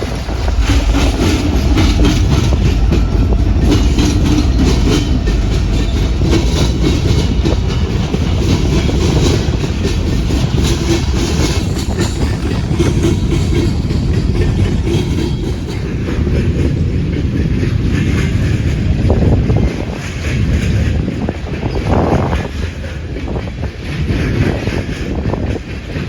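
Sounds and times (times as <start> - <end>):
loud train rumble: 0.0 - 26.0
train wheels clicking over rail joints: 0.0 - 26.0.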